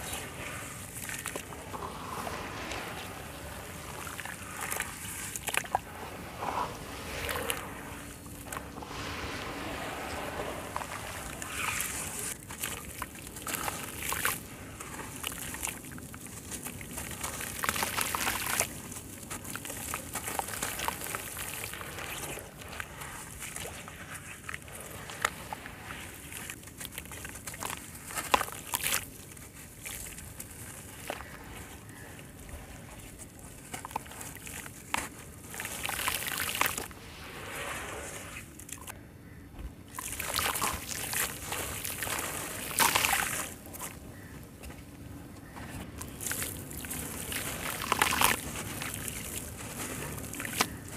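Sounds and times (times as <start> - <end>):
wet crumbs trickling and splashing: 0.0 - 37.3, 39.9 - 44.3, 46.0 - 50.9
hands sloshing through muddy water: 0.0 - 38.9, 39.9 - 44.5, 46.0 - 50.9.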